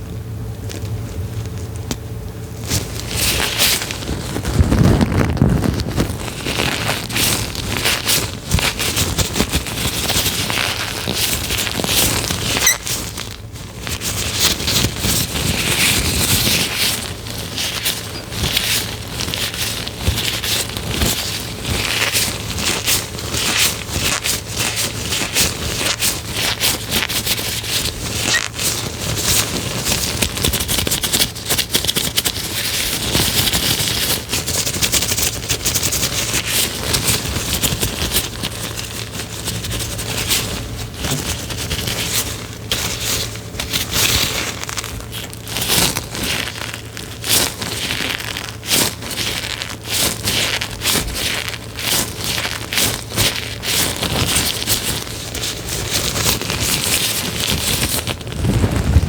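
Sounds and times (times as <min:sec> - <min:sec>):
crackling and crinkling: 0:00.0 - 0:59.0.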